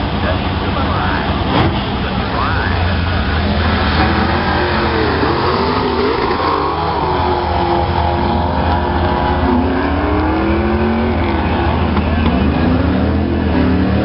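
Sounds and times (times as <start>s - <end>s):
racing car engines accelerating: 0.0s - 14.0s.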